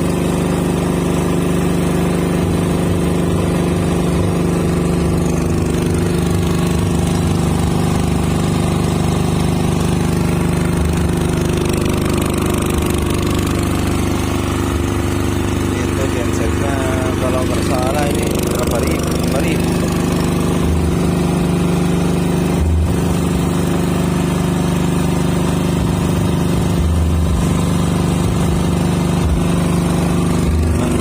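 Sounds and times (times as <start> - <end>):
generator engine running: 0.0 - 31.0.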